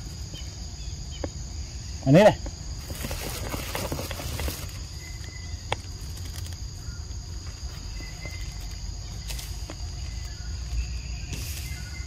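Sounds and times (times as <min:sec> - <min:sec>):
insects chorus shrill hum: 0:00.0 - 0:12.0.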